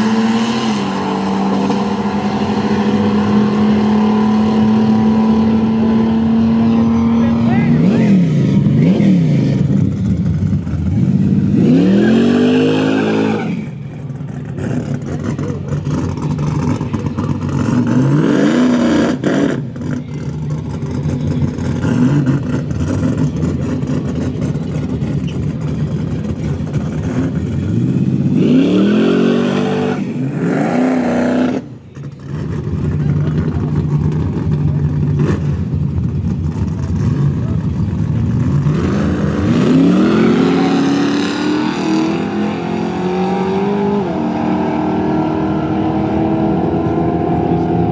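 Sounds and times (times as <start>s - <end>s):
drag race car engines revving: 0.0s - 47.9s.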